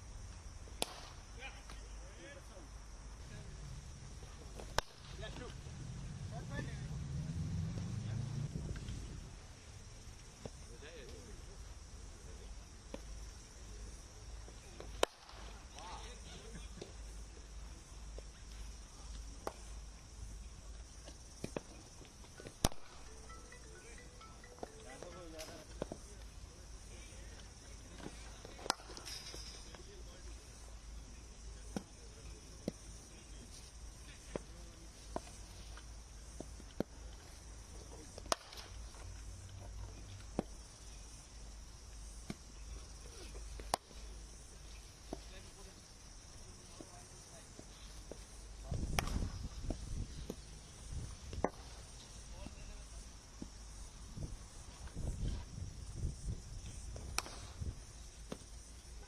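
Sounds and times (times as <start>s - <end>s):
outdoor ambience: 0.0s - 59.0s.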